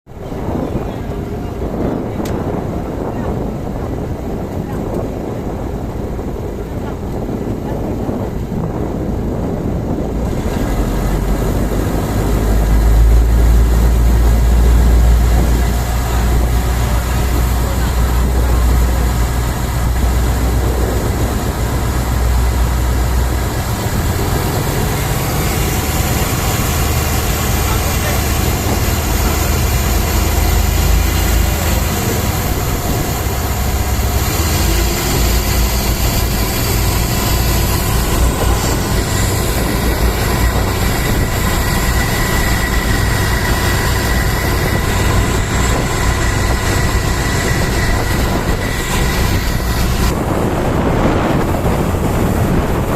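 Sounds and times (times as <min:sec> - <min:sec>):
ship engine droning: 0:00.1 - 0:52.9
wind and sea noise: 0:00.1 - 0:52.9.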